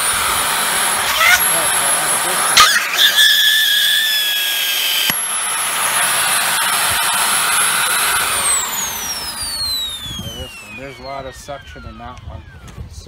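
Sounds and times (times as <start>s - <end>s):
vacuum motor whine: 0.0s - 13.0s.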